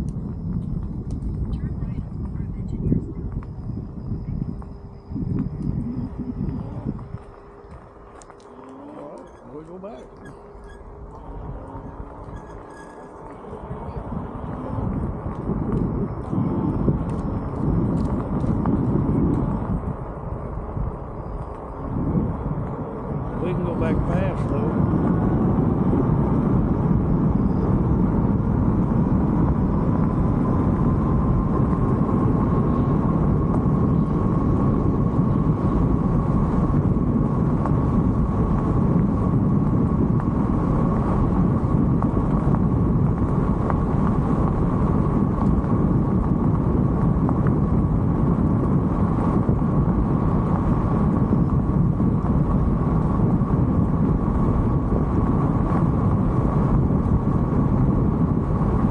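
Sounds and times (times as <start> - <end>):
electric motor whine: 0.0 - 58.9
wind and road rumble: 0.0 - 58.9.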